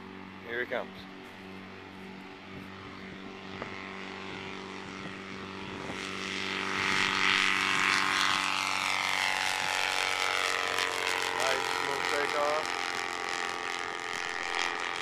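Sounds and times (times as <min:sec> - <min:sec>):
light aircraft propeller engine: 0:00.0 - 0:15.0.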